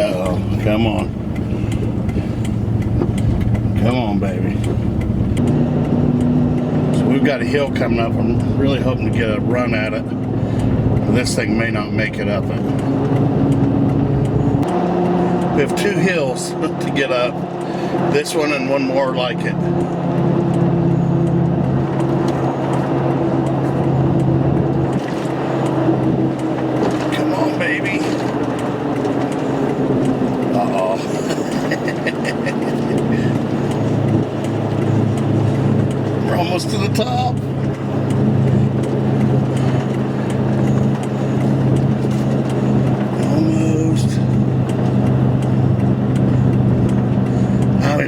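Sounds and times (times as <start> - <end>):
truck engine droning uphill: 0.0 - 48.0.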